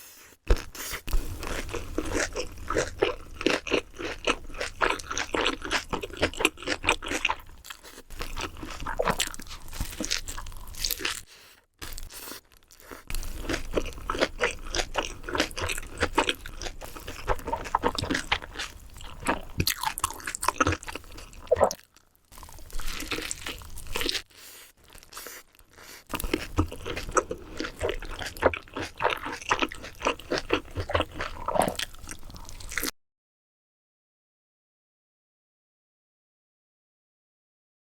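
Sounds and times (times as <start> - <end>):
person chewing crunchy food: 0.2 - 32.9.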